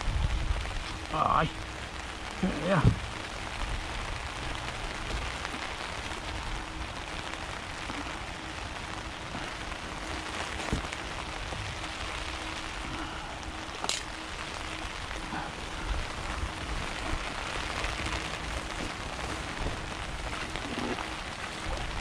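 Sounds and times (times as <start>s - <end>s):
low rumble: 0.0s - 22.0s
rain falling: 0.0s - 22.0s.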